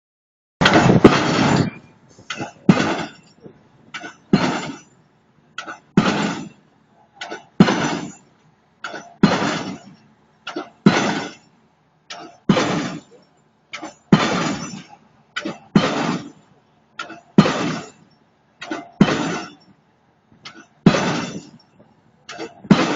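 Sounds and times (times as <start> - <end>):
hydraulic hammer driving pile: 0.6 - 22.9.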